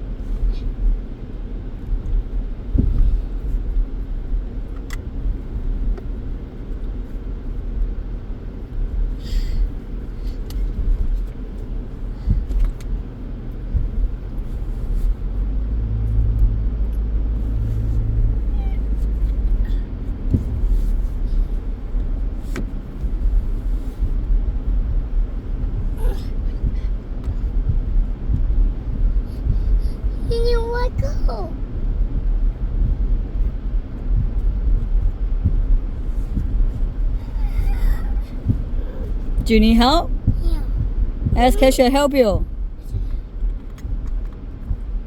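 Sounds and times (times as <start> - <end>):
low rumble inside car: 0.0 - 45.0.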